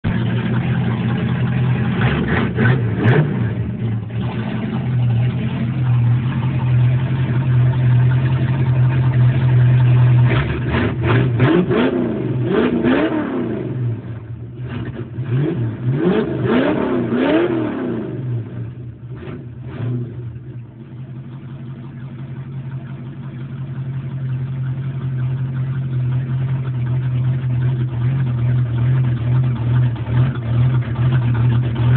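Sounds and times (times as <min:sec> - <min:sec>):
engine revving: 0:00.0 - 0:20.6, 0:24.6 - 0:31.9
car engine idling: 0:00.0 - 0:31.9.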